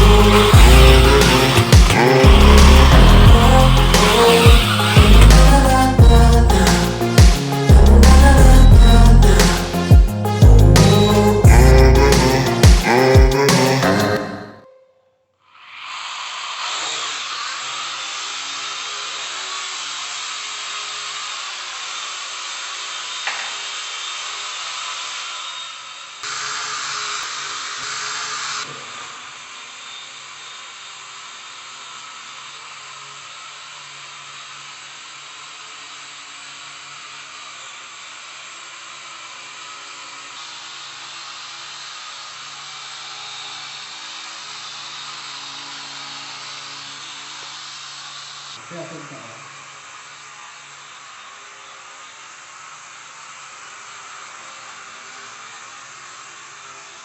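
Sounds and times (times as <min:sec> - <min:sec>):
toy drone propellers whirring: 0:00.0 - 0:14.3, 0:15.4 - 0:57.0.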